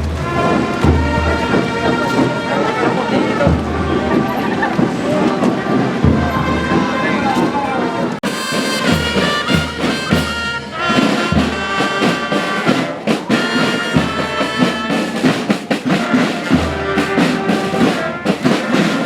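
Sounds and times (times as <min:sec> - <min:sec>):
brass band playing: 0:00.0 - 0:19.0.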